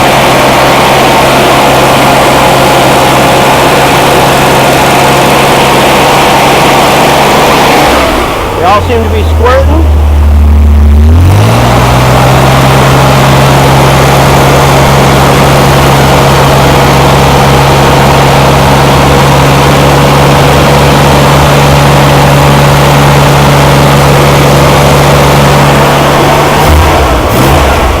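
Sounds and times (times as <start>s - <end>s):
air-cooled engine running: 0.0s - 28.0s.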